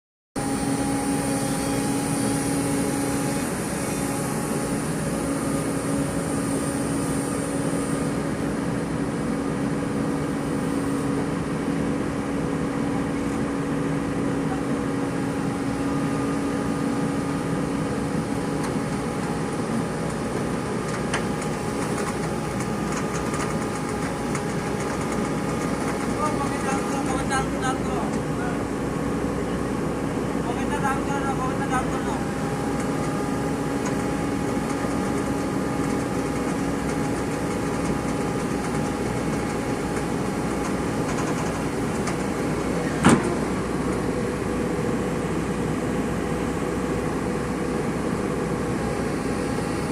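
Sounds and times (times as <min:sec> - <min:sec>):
diesel engine running: 0:00.4 - 0:49.8
high whine: 0:00.4 - 0:49.9.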